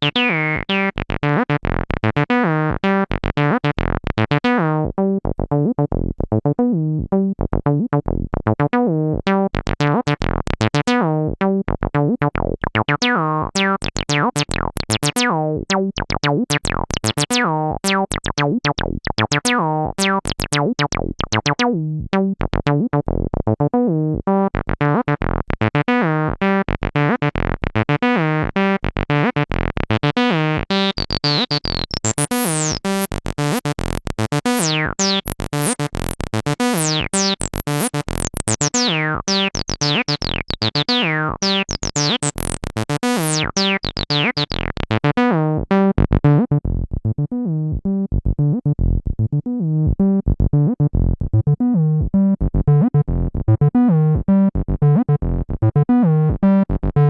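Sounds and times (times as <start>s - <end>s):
acid synth bassline: 0.0s - 57.0s.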